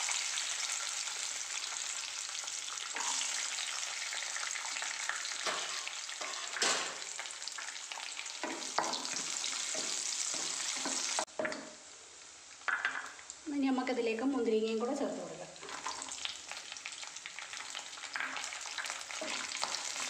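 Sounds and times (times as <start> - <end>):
nuts sizzling in a pan: 0.0 - 20.0.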